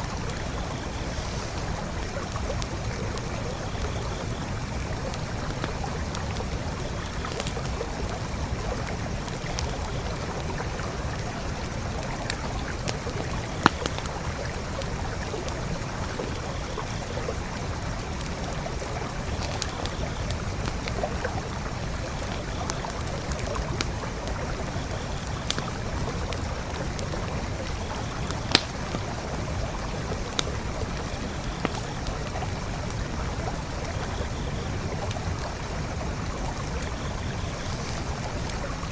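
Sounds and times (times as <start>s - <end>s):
campfire crackling and popping: 0.0s - 38.9s
creek flowing: 0.0s - 38.9s.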